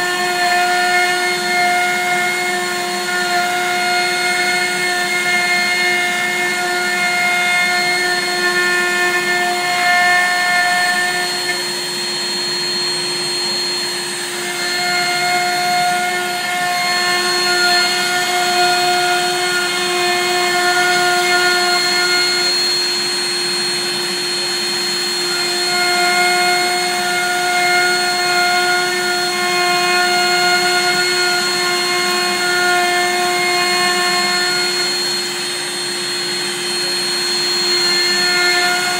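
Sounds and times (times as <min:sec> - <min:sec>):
cutter milling wood: 0:00.0 - 0:38.9
router spindle whine: 0:00.0 - 0:38.9.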